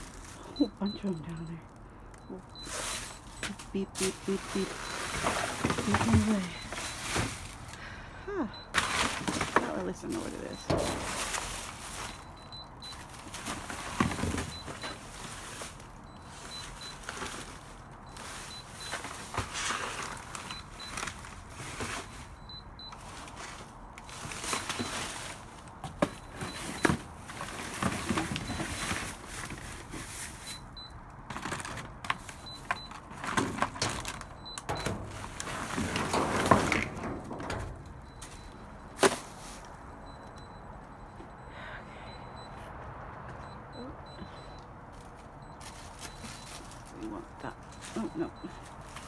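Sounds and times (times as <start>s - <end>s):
trash rustling and knocking: 0.0s - 41.4s, 43.1s - 49.0s.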